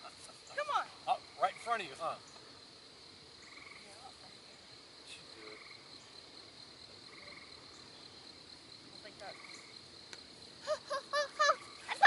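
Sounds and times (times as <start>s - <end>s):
high-pitched insect trill: 0.0s - 12.0s
short pulsing insect calls: 0.0s - 12.0s.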